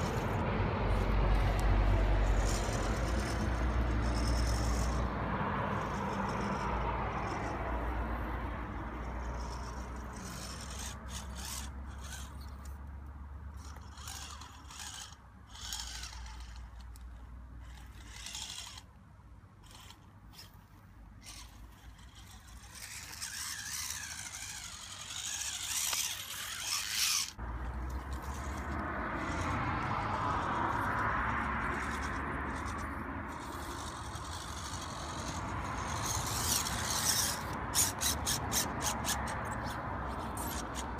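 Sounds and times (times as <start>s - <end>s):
tyres scraping on stone: 0.0s - 12.9s, 13.6s - 18.9s, 19.6s - 40.9s
toy car motor and gear whir: 0.0s - 19.0s, 19.6s - 40.9s.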